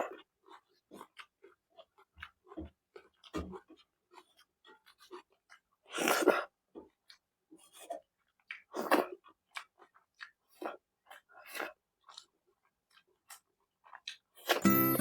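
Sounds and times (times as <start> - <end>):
wet chewing and lip-smacking: 0.0 - 14.6.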